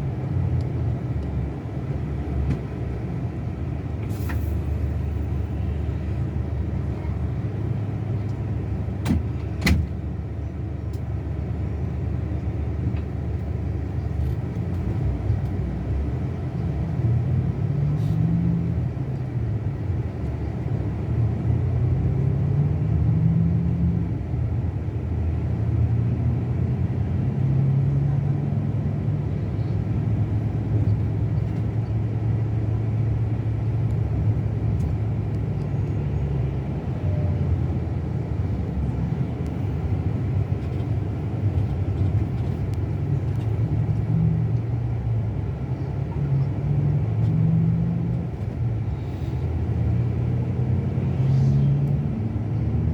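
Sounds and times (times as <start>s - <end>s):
bus engine running: 0.0s - 52.9s.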